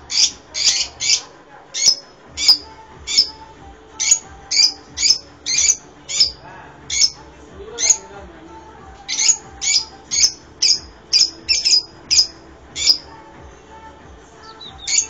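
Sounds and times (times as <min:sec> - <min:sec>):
lovebirds shrill calls: 0:00.0 - 0:08.1, 0:09.0 - 0:13.1, 0:14.4 - 0:15.0.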